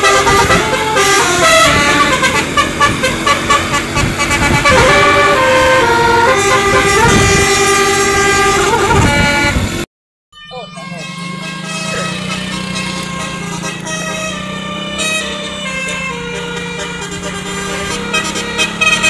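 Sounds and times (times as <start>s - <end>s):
multi-tone musical horn tune: 0.0s - 9.8s, 10.4s - 19.0s.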